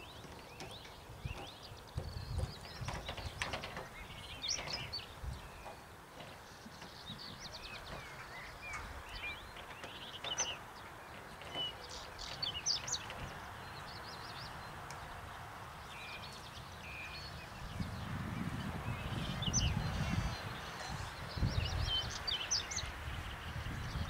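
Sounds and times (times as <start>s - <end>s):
small birds chirping and singing: 0.0s - 24.0s
wind rumble on microphone: 0.0s - 24.0s.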